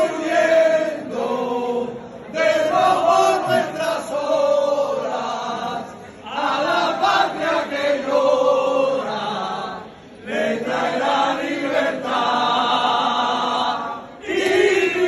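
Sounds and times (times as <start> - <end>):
crowd singing in unison: 0.0 - 15.0.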